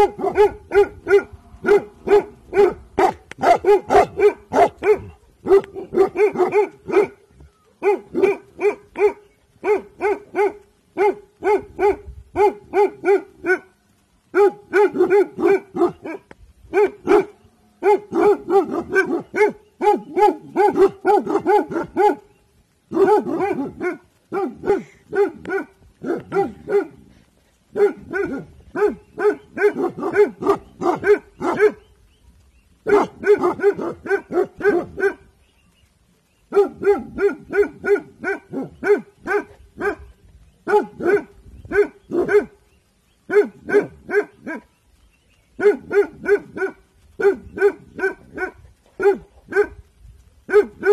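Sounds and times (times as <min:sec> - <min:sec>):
dog barking rapidly: 0:00.0 - 0:07.2, 0:07.8 - 0:13.6, 0:14.3 - 0:22.3, 0:22.9 - 0:27.1, 0:27.7 - 0:31.8, 0:32.8 - 0:35.3, 0:36.4 - 0:42.6, 0:43.3 - 0:44.7, 0:45.6 - 0:49.8, 0:50.5 - 0:50.9.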